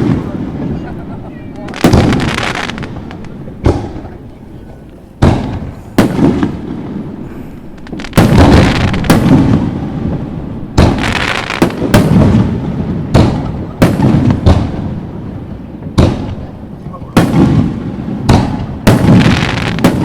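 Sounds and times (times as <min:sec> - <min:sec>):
fireworks bursting with rumbling echo: 0:00.0 - 0:20.0.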